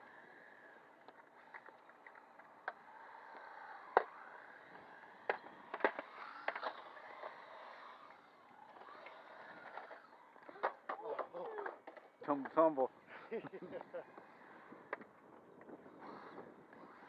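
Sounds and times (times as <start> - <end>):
model car motor whine: 0.0 - 12.2, 13.8 - 17.0.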